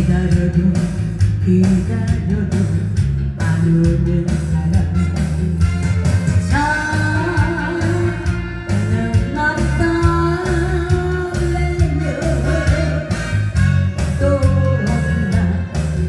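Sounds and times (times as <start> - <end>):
woman singing into a microphone: 0.0 - 5.6, 6.5 - 13.1, 14.1 - 16.0
backing track with guitar and bass: 0.0 - 16.0.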